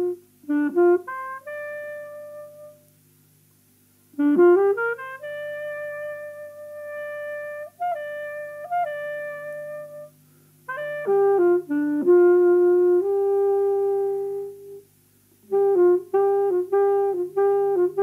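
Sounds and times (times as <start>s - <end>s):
wind instrument slow melody: 0.0s - 2.9s, 4.1s - 18.0s.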